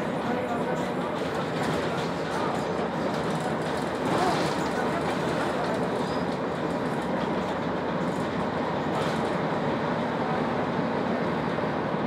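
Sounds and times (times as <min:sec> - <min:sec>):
bus engine running: 0:00.0 - 0:12.0
road rumble: 0:00.0 - 0:12.0.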